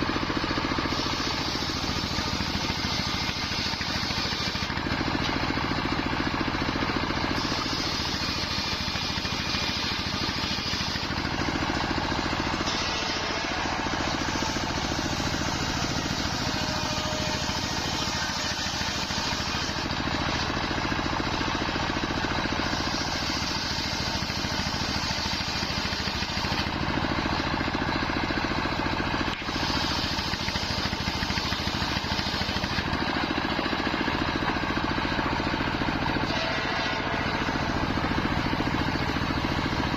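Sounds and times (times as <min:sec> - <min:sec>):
circular saw ripping wood: 0:00.0 - 0:27.6, 0:29.1 - 0:39.9
machine drone: 0:00.0 - 0:39.9.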